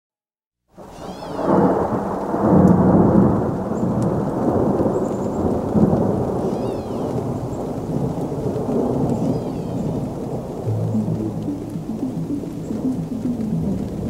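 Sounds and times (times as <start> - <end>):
rain: 0.7 - 14.0
rumbling thunder: 0.9 - 14.0.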